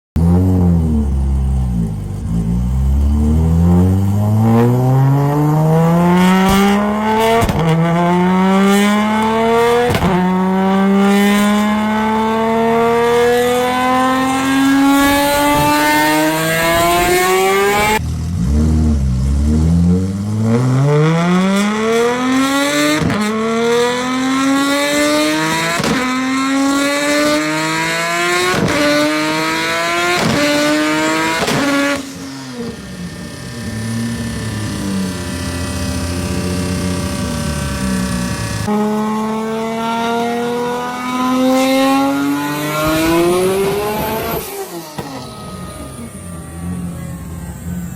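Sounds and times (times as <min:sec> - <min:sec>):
car engine accelerating through gears: 0:00.2 - 0:47.9.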